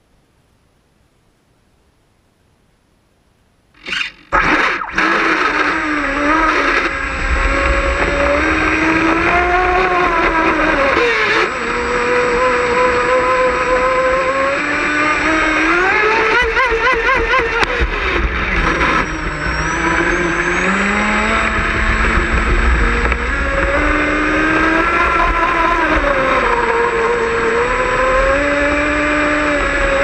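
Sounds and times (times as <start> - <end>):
rc boat motor running: 3.8 - 30.0.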